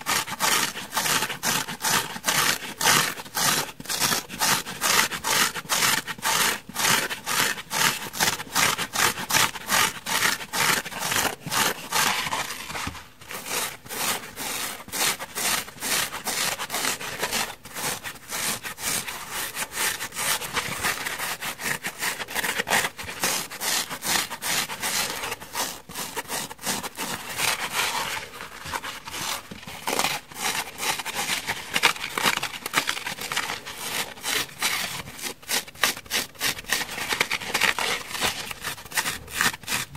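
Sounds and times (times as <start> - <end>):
fingernails scratching sponge: 0.0 - 39.9.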